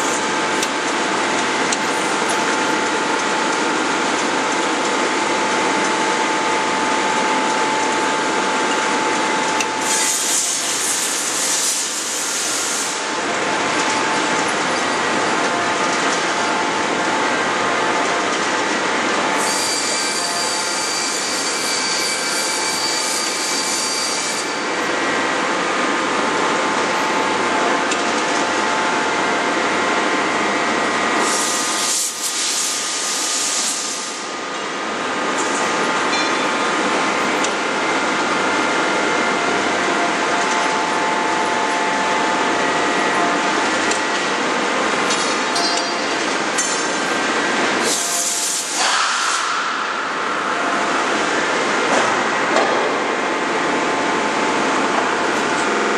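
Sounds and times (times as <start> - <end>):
steady machine whine: 0.0 - 55.9.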